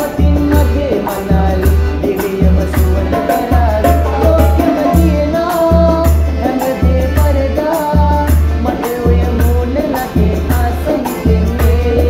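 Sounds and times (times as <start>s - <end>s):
calypso band music: 0.0s - 12.0s
men singing: 0.0s - 12.0s.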